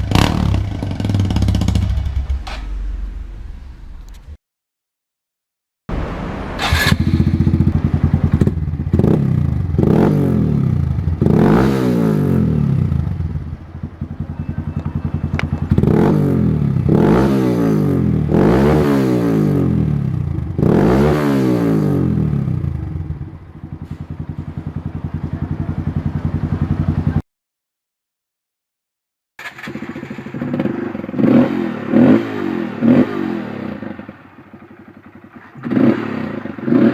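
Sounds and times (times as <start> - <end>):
motorcycle engine revving: 0.0 - 4.0, 5.9 - 27.2, 29.4 - 36.9.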